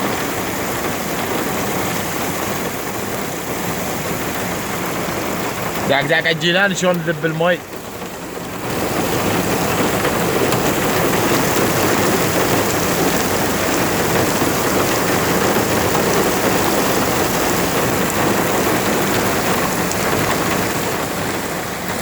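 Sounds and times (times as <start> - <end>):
flood water rushing: 0.0 - 22.0
heavy rain: 0.0 - 22.0.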